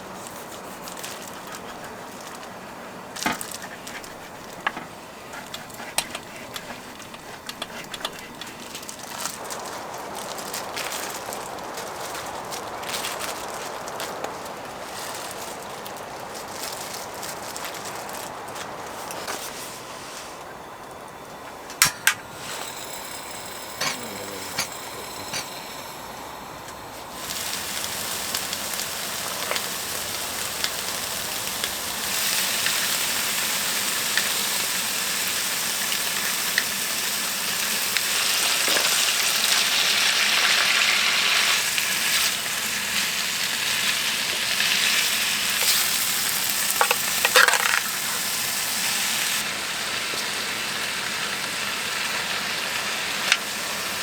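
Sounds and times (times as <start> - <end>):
food sizzling in a pan: 0.0 - 20.4, 22.2 - 54.0.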